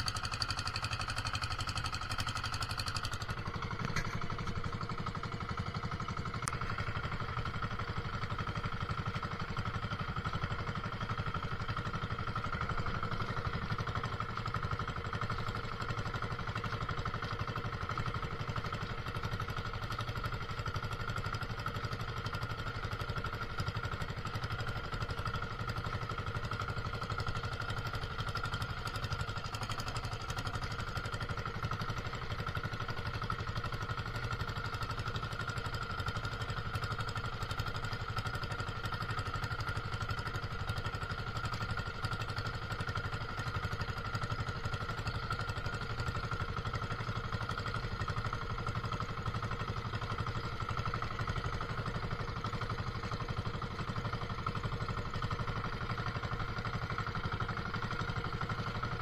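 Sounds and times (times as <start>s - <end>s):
small boat engine droning: 0.0s - 59.0s.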